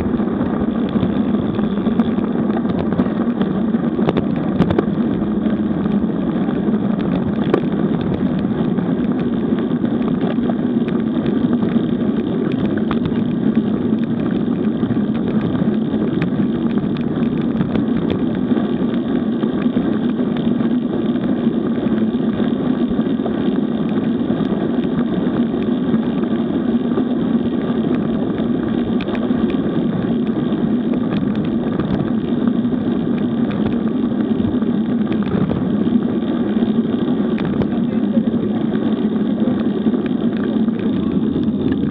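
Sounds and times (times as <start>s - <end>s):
bike tyres rolling on asphalt: 0.0s - 41.9s.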